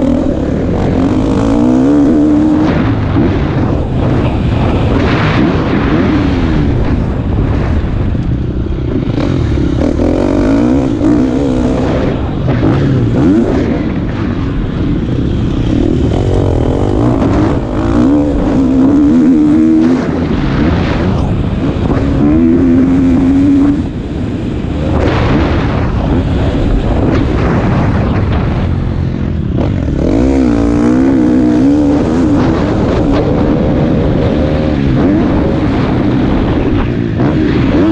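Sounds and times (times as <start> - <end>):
motocross bike engine revving: 0.0 - 7.8, 8.4 - 37.9.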